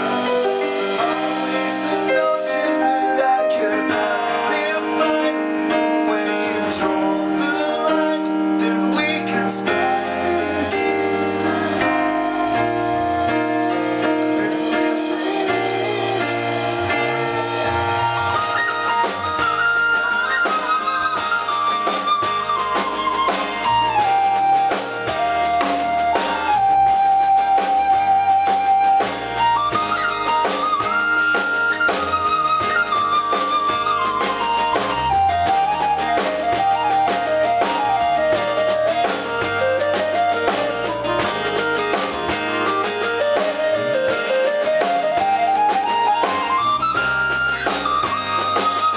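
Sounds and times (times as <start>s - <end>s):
rock band playing: 0.0s - 48.9s
sustained lead melody with vibrato: 0.0s - 48.9s.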